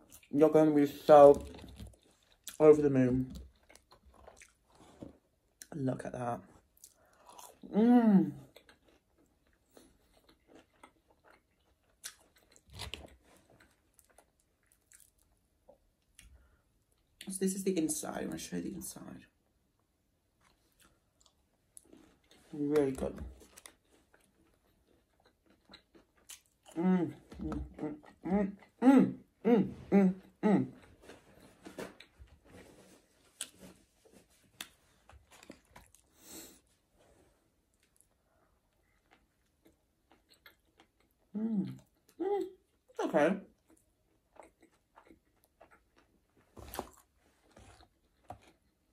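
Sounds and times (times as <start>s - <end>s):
quiet chewing: 1.2s - 5.7s, 8.3s - 17.3s, 20.4s - 28.8s, 30.2s - 43.0s, 43.6s - 48.9s.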